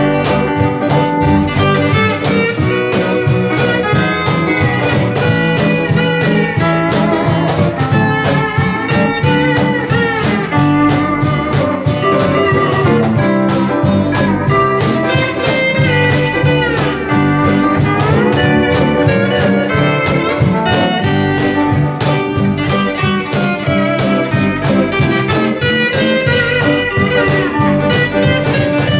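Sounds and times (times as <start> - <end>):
bass: 0.0 - 28.9
light percussion: 0.0 - 28.9
rhythm guitar: 0.0 - 28.9
steel guitar sliding melody: 0.0 - 28.9
strummed ukulele: 0.0 - 28.9.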